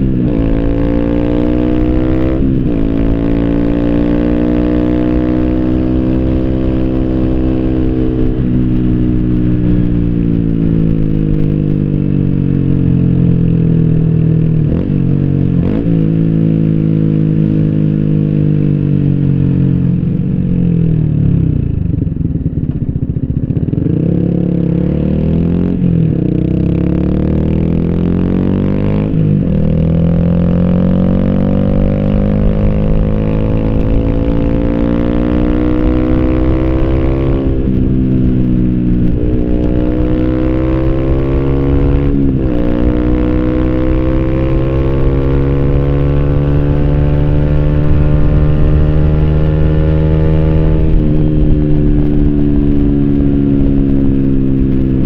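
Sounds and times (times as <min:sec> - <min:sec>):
motorcycle engine accelerating and slowing: 0:00.0 - 0:55.0.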